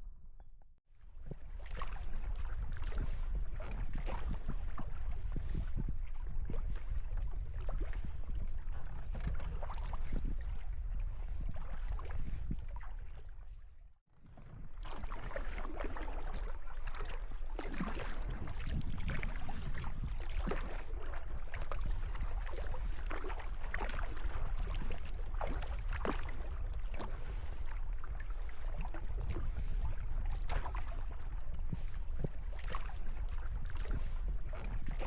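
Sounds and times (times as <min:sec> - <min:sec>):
water splashing around a kayak: 0:01.0 - 0:35.0.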